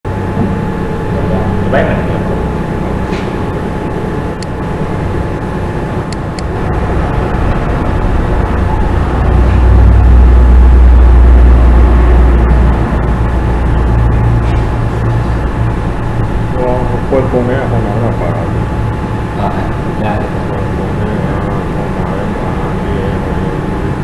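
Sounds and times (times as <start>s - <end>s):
low background rumble: 0.1s - 24.0s.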